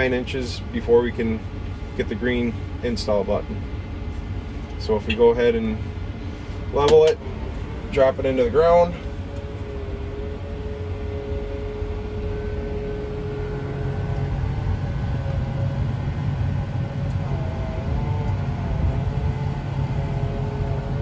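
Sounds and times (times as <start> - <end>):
faint steady whine: 0.0 - 21.0
tractor engine rumbling: 0.0 - 21.0.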